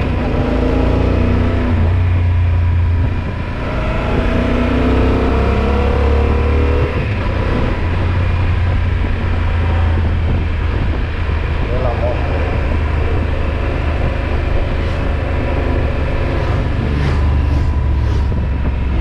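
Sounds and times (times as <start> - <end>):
motorcycle engine running: 0.0 - 19.0
wind rush: 0.0 - 19.0.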